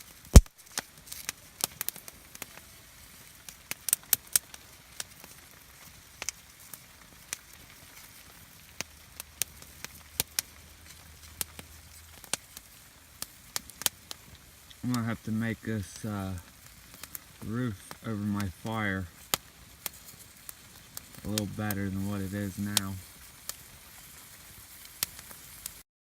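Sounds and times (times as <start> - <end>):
campfire crackling and popping: 0.0 - 25.8.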